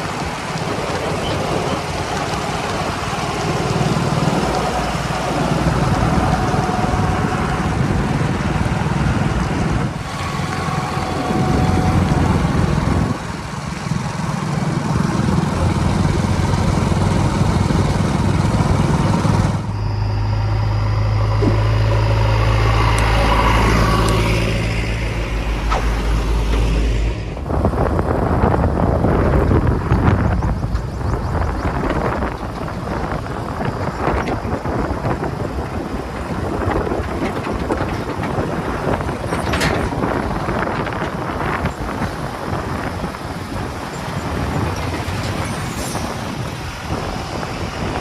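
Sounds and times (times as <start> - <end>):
diesel engines running: 0.0 - 48.0.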